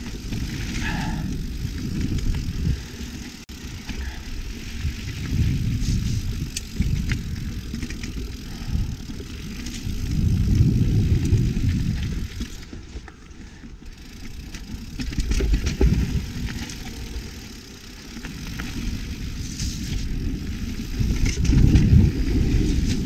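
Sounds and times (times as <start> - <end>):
bike clicks and rattles: 0.0 - 23.0
rumble of wind and tyres: 0.0 - 23.0.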